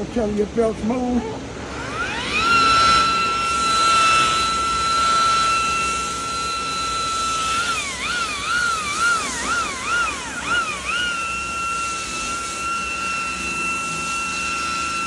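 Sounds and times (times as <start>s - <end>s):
electric buffer whining: 0.0s - 15.0s.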